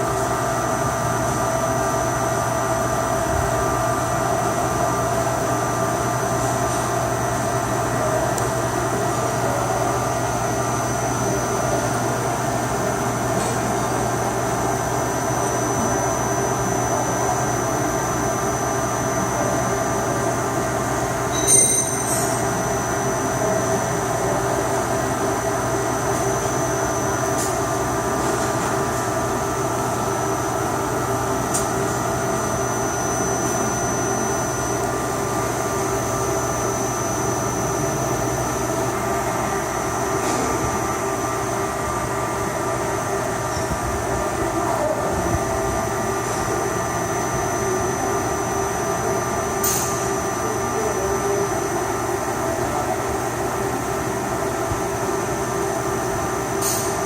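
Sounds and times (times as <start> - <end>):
high steady whine: 0.0 - 57.0
machine hum: 0.0 - 57.0.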